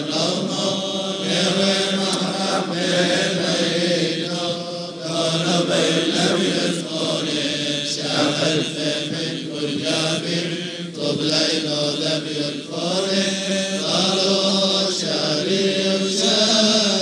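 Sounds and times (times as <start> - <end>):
voices chanting a hymn: 0.0 - 17.0.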